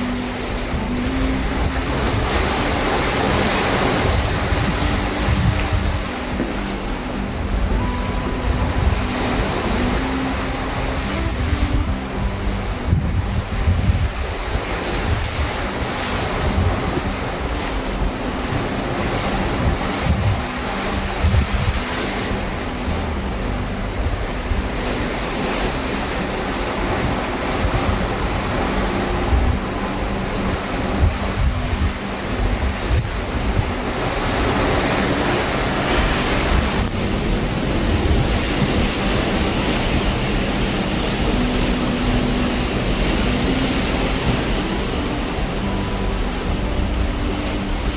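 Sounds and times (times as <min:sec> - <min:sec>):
ocean waves rushing: 0:00.0 - 0:47.9
wind buffeting microphone: 0:00.0 - 0:47.9.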